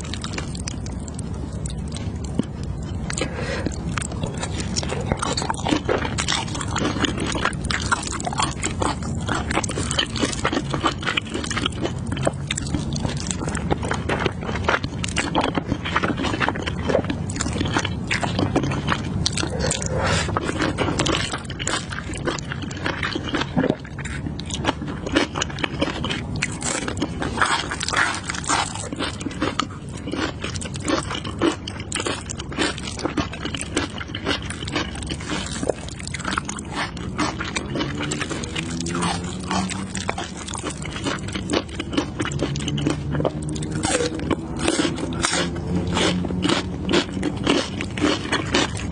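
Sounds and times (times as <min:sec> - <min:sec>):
person chewing and slurping noodles: 0:00.0 - 0:48.9.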